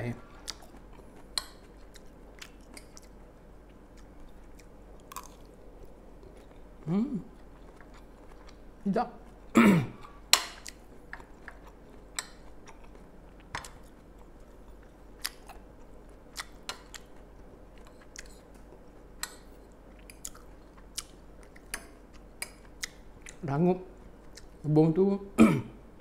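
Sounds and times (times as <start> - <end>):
crunchy chewing: 0.3 - 23.4.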